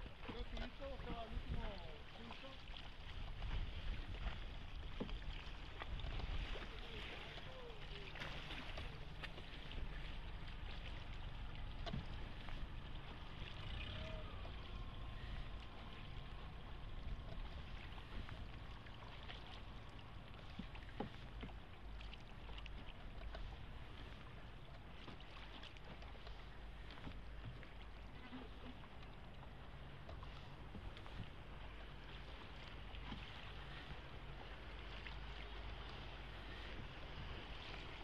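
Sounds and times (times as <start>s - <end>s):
steady low rumble: 0.0s - 38.0s
water sloshing around boat hull: 0.0s - 38.0s.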